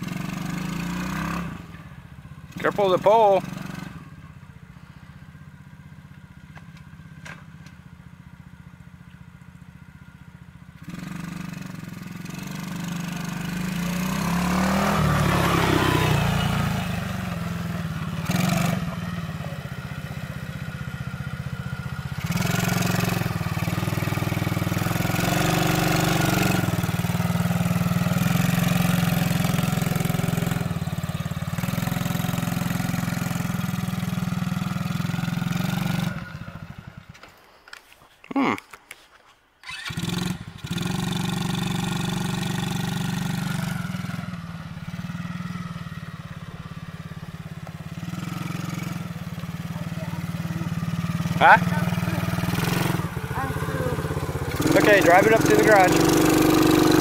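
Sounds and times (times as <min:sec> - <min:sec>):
quad engine passing by: 0:00.0 - 0:37.5, 0:39.6 - 0:57.0.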